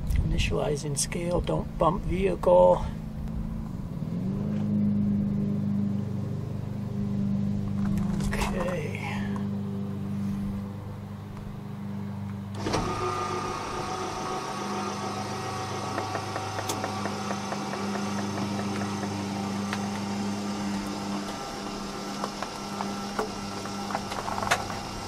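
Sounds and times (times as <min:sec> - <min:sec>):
steady low hum: 0:00.0 - 0:25.0
electric motor running: 0:03.0 - 0:25.0.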